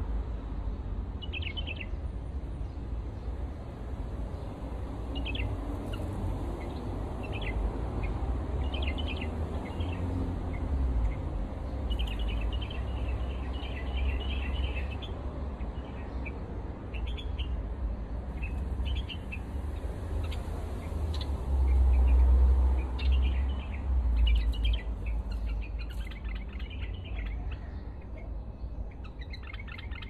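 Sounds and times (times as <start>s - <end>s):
small birds chirping: 1.2s - 30.0s.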